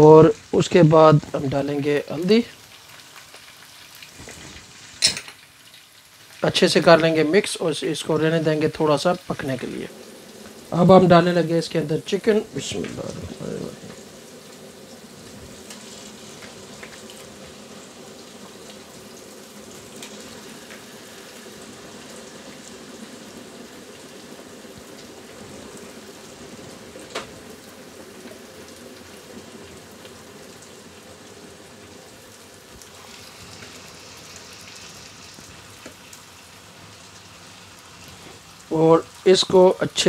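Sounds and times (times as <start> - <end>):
chicken sizzling in oil: 0.0 - 40.0.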